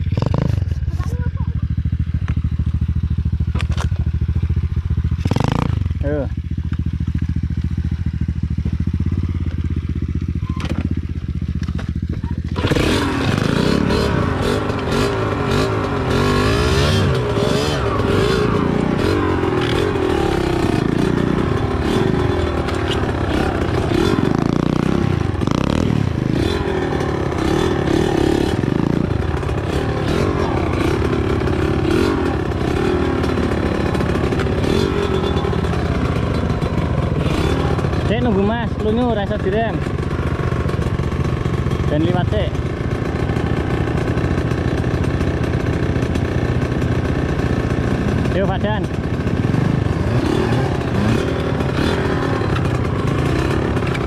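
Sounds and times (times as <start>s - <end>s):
small motorcycle engine running: 0.0s - 54.0s.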